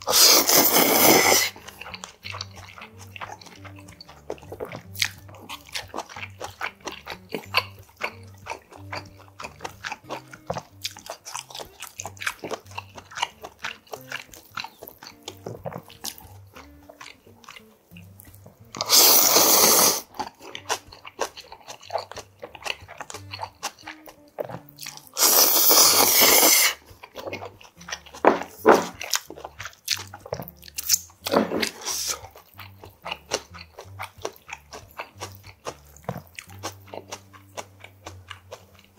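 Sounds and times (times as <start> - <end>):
crunchy chewing: 0.0 - 38.9
quiet background music: 0.0 - 38.9
slurping noodles: 0.0 - 38.9.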